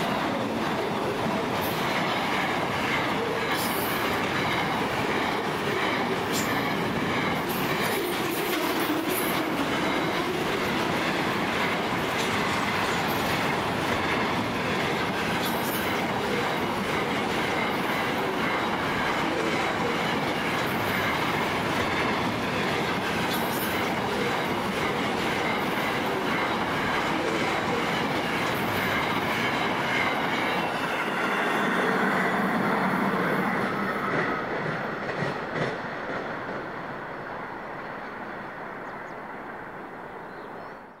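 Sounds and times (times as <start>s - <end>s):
train wagons rolling on rails: 0.0s - 40.4s.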